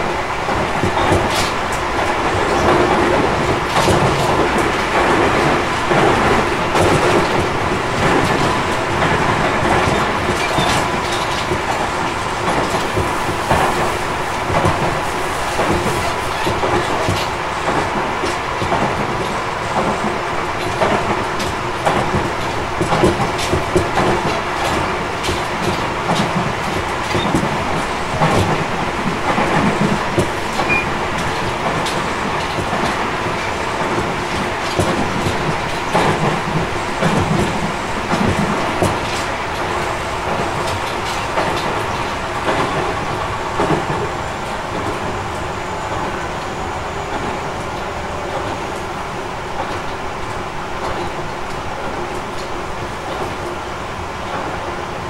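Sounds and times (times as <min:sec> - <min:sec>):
train wheels rumbling on rail: 0:00.0 - 0:55.0
clicks over rail joints: 0:00.5 - 0:53.6.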